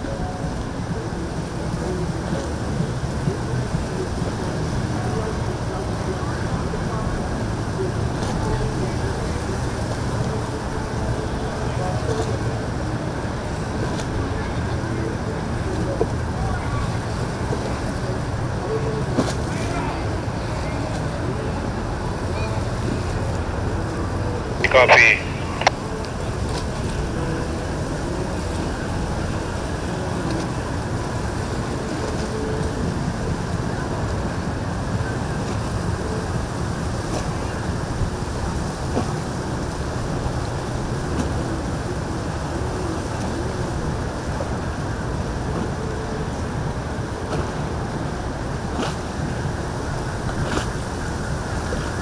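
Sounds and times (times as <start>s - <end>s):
boat engine noise: 0.0s - 52.0s
rushing water: 0.0s - 52.0s
wind: 0.0s - 52.0s.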